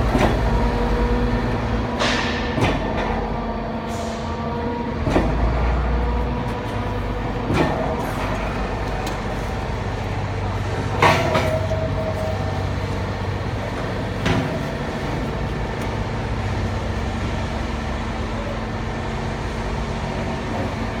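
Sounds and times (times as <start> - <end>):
factory machinery humming: 0.0 - 21.0.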